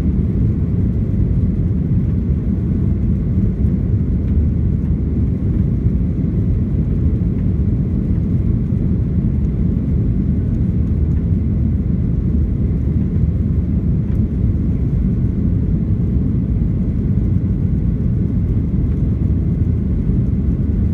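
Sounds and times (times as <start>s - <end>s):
airplane cabin engine noise: 0.0s - 20.9s.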